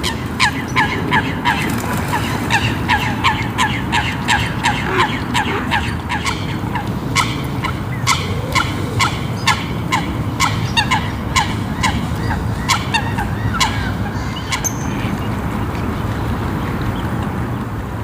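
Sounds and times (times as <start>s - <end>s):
waterfowl calling: 0.0s - 17.0s
low background noise: 0.0s - 18.0s.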